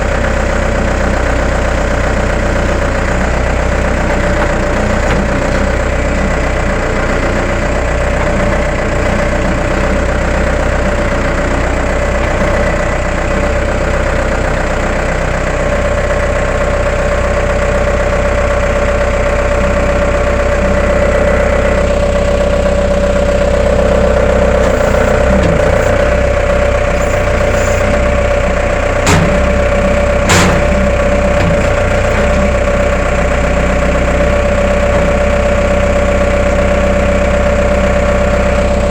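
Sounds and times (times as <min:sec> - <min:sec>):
skid steer engine idling: 0:00.0 - 0:38.9.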